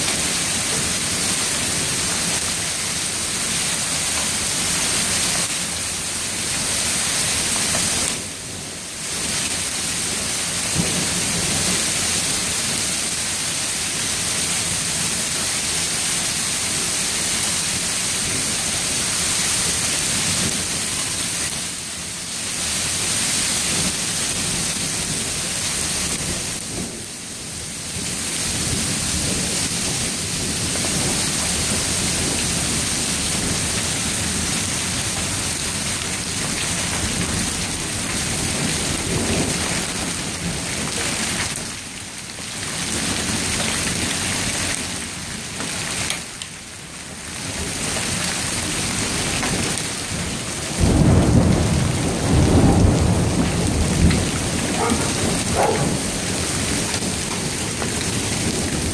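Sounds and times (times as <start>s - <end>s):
heavy hail and rain: 0.0s - 58.9s.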